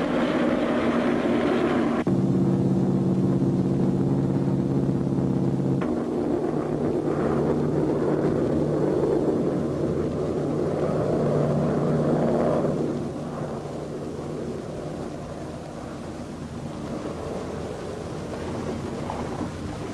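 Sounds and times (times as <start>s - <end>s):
aircraft engine drone: 0.0s - 19.9s
rushing wind: 0.0s - 19.9s.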